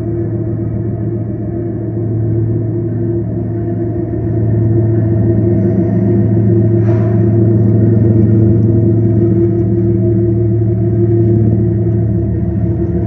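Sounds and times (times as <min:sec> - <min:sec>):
locomotive engines droning: 0:00.0 - 0:13.0
train rumble: 0:00.0 - 0:13.0.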